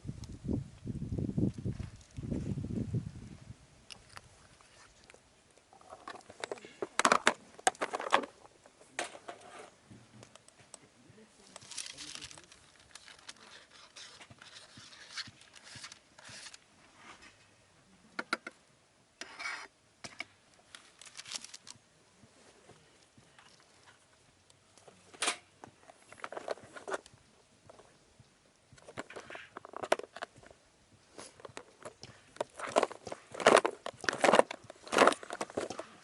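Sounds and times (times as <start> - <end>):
crinkling and rustling: 1.5 - 2.6, 3.9 - 17.6, 19.2 - 27.9, 28.5 - 36.0.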